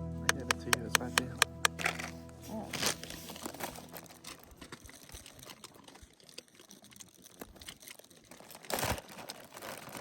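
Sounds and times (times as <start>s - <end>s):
plastic packaging rustling: 1.8s - 10.0s.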